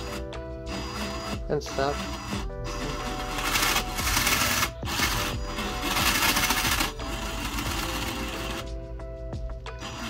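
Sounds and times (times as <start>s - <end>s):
electric motor spinning: 0.0s - 8.8s, 9.7s - 10.0s.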